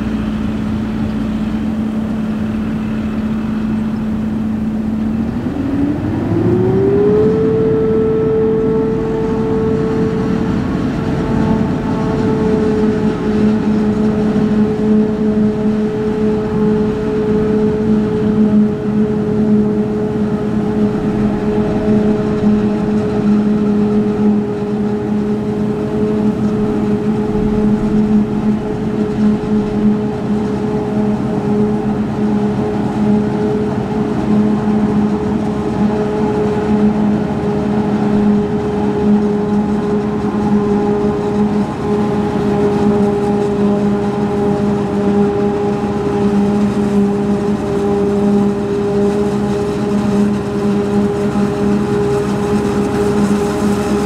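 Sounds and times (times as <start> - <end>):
forage harvester running: 0.0 - 54.0.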